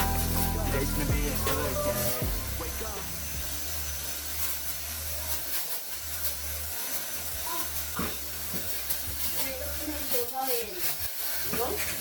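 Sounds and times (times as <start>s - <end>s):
handheld vacuum cleaner motor: 0.0s - 12.0s.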